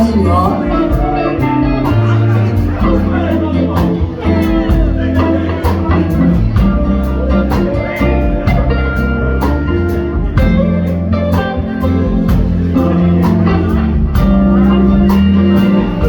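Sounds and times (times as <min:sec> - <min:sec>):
bass: 0:00.0 - 0:16.0
drums keeping a steady beat: 0:00.0 - 0:16.0
guitar: 0:00.0 - 0:16.0.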